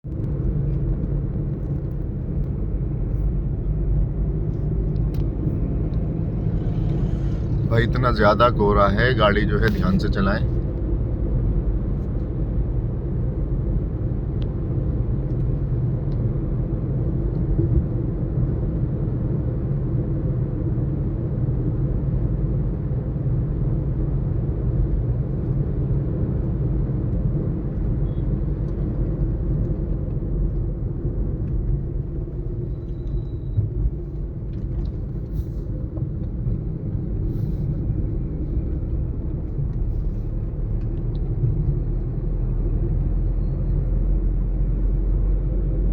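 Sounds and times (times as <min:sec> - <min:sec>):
vehicle engine and road rumble: 0:00.0 - 0:45.9.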